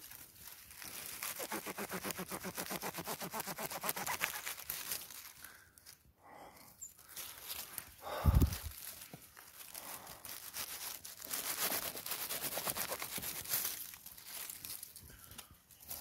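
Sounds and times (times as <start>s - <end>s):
leaves and needles rustling: 0.0s - 16.0s.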